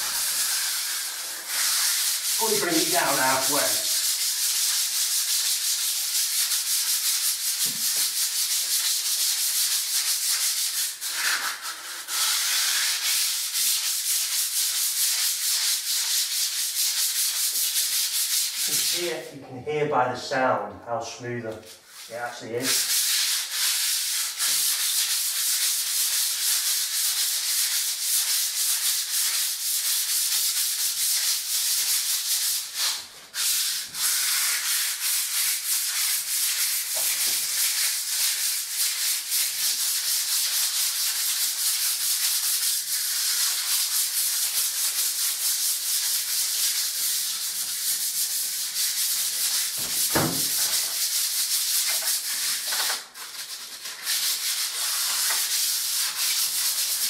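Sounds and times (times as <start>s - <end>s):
sandpaper rasping on plaster wall: 0.0s - 19.4s, 21.6s - 57.0s.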